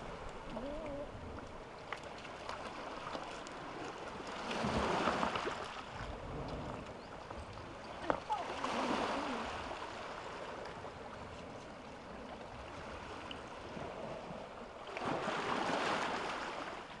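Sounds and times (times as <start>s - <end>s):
waves washing over pebbles: 0.0s - 17.0s.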